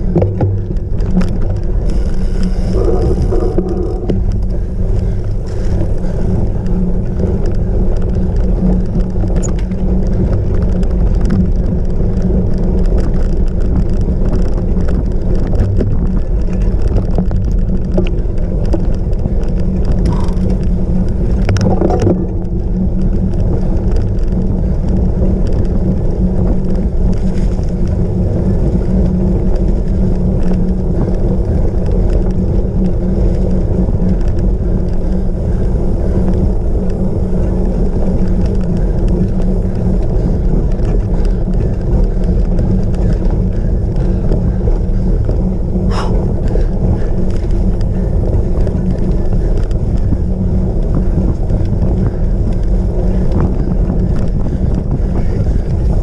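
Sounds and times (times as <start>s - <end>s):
bike tyre and drivetrain rumble: 0.0s - 56.0s
wind on microphone: 0.0s - 56.0s.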